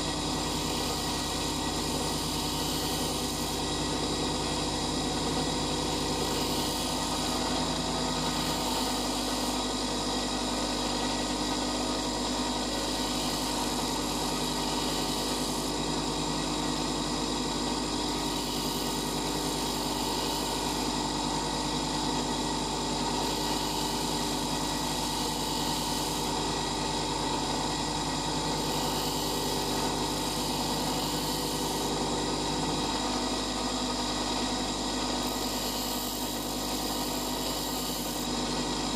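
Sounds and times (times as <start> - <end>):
bench grinder sharpening drill bit: 0.0 - 38.9.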